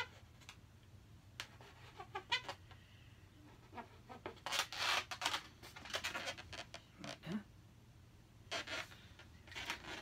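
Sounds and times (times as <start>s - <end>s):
marker squeaking on balloon: 0.0s - 0.6s, 1.4s - 7.4s, 8.5s - 10.0s.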